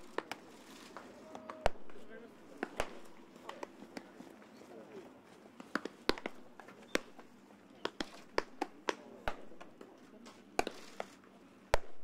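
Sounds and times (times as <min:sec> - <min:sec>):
baseballs smacking into mitts: 0:00.0 - 0:04.2, 0:05.6 - 0:11.1, 0:11.7 - 0:12.0.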